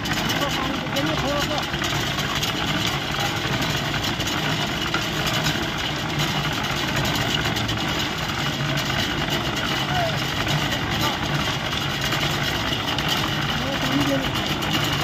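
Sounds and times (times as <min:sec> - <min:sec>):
concrete mixer running: 0:00.0 - 0:15.0.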